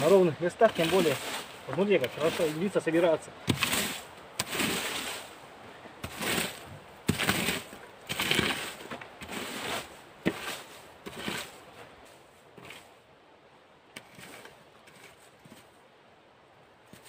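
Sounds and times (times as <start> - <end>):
rake scraping through dry needles: 0.0 - 5.4, 6.0 - 12.9, 14.0 - 15.7.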